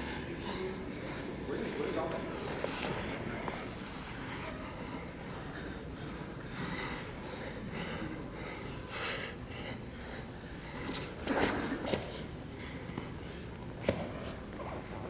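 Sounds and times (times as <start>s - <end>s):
people breathing hard: 0.0s - 14.8s
low room hum: 0.0s - 15.0s.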